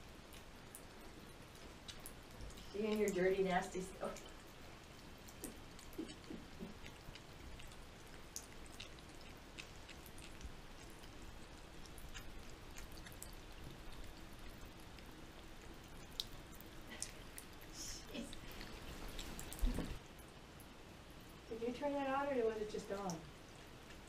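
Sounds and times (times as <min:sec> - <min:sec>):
cat lapping water: 0:00.0 - 0:20.0
drips and splashes: 0:00.0 - 0:20.0.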